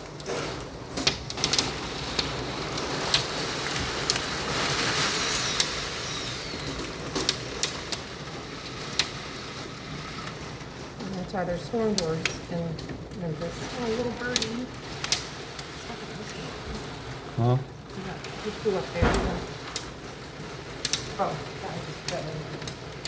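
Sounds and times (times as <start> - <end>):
hail taps: 0.0 - 23.0
rain: 0.0 - 23.0.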